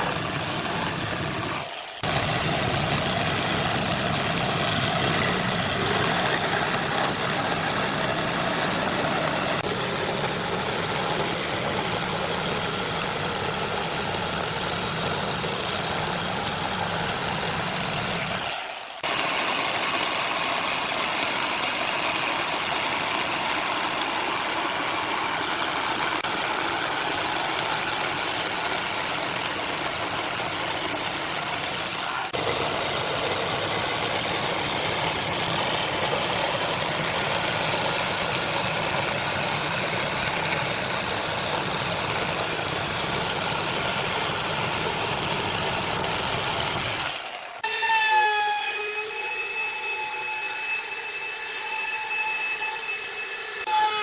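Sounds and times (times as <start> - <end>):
woodworking power tool running: 0.0 - 54.0.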